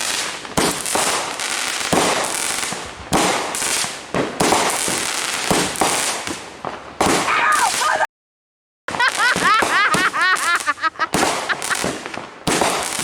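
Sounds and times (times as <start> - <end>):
fireworks bangs: 0.0 - 8.1, 8.9 - 13.0.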